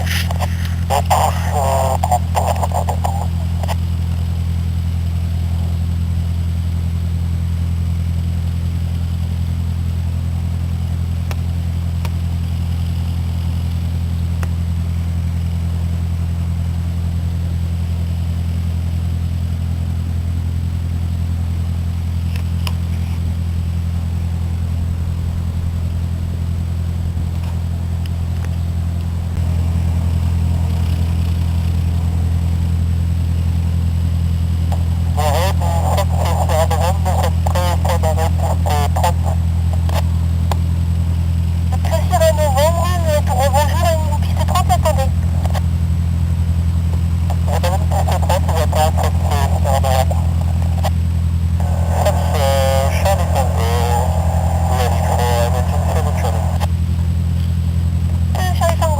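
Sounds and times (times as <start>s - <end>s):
light aircraft engine droning: 0.0s - 58.9s.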